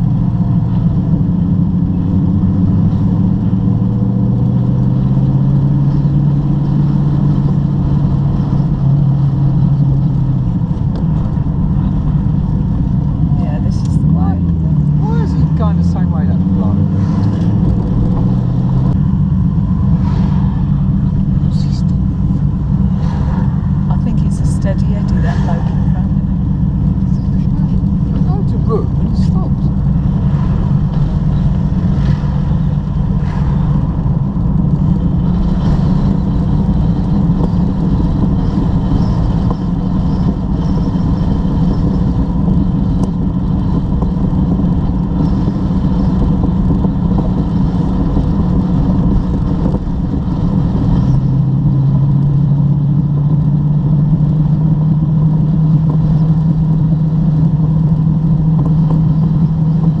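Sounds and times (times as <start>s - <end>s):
car engine running: 0.0s - 60.0s
road noise: 0.0s - 60.0s.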